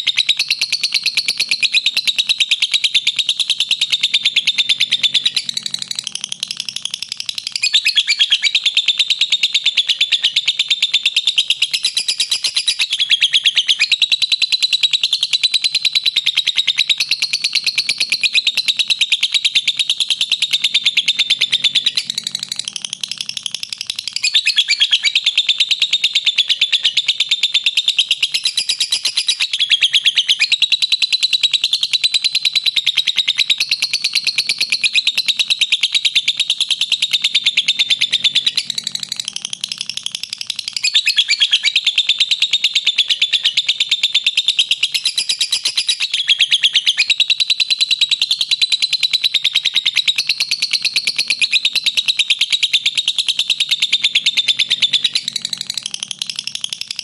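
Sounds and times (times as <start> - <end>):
lovebird chattering call: 0.0 - 57.0.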